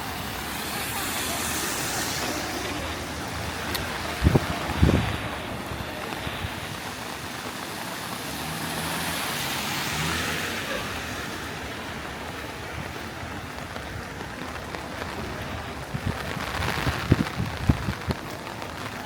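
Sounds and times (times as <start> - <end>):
heavy rain on flooded street: 0.0 - 19.0
tyres swishing through water: 0.0 - 19.0.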